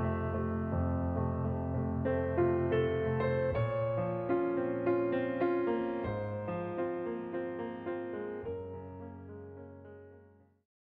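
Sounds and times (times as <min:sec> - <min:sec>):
gentle piano melody: 0:00.0 - 0:10.5.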